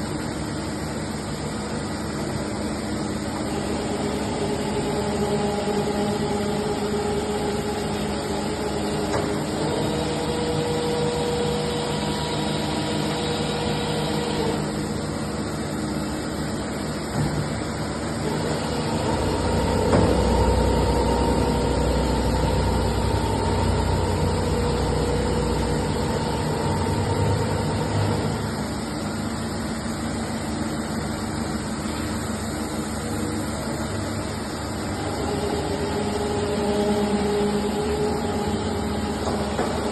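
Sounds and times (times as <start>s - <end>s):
milling machine running: 0.0s - 39.9s.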